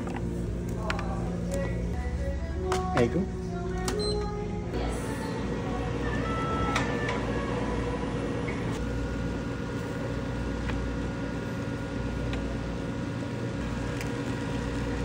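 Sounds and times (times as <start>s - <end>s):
cooking machine humming: 0.0s - 15.0s.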